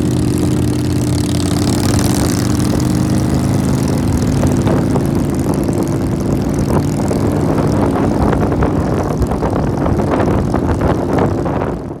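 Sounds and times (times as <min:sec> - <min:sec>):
motorcycle engine cruising: 0:00.0 - 0:12.0
wind noise on microphone: 0:00.0 - 0:12.0.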